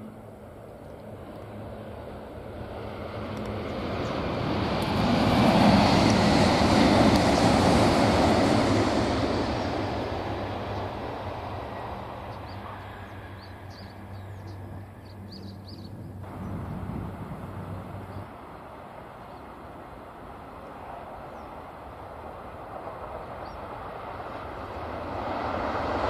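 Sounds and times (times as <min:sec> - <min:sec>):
train rushing past: 0:01.5 - 0:15.2, 0:16.2 - 0:26.0.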